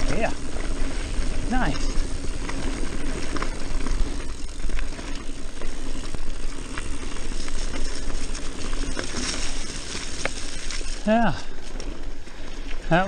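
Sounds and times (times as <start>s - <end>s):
bike rattling: 0.0s - 13.0s
bike tyres rolling over dirt: 0.0s - 13.0s.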